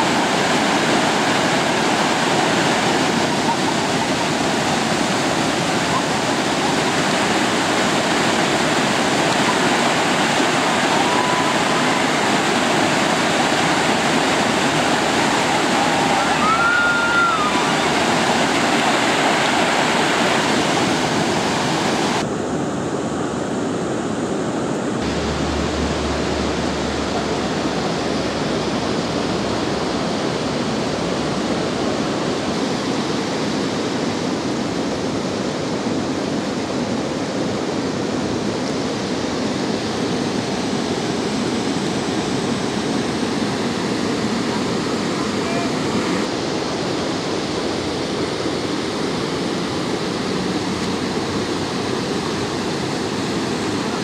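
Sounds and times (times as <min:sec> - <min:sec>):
whitewater rushing: 0:00.0 - 0:54.0.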